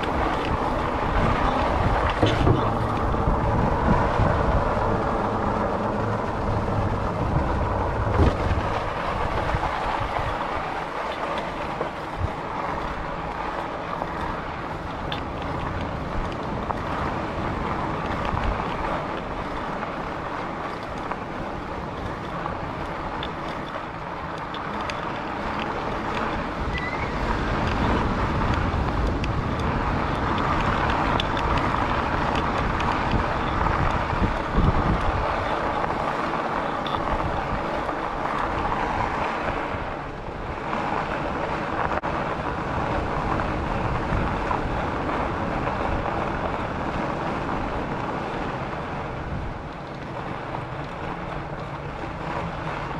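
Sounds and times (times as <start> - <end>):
bicycle tyre noise on pavement: 0.0 - 52.9
wind rushing over microphone: 0.0 - 52.9.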